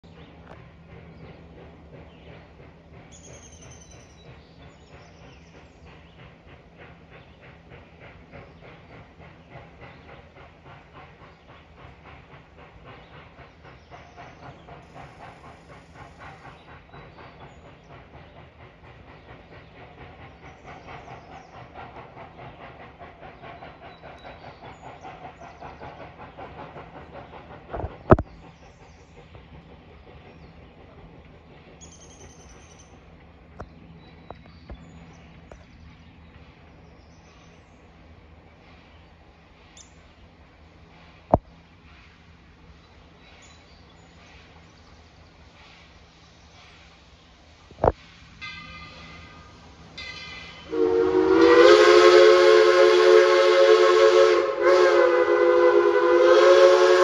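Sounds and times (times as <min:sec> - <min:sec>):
steam locomotive rhythmic beat: 0:00.2 - 0:57.0.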